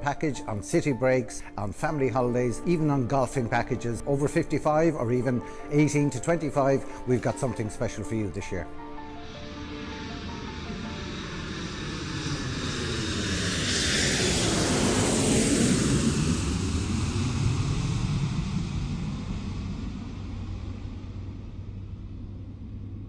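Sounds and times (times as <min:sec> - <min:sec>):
airplane flying past: 0:04.2 - 0:23.0.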